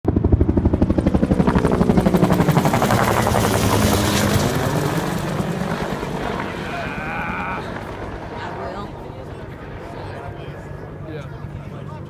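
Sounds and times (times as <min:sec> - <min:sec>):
helicopter rotor beating: 0:00.1 - 0:12.0.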